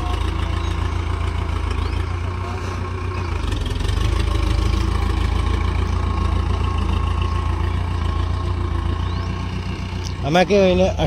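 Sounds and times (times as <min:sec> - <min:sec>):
diesel tractor engine running: 0:00.0 - 0:11.0.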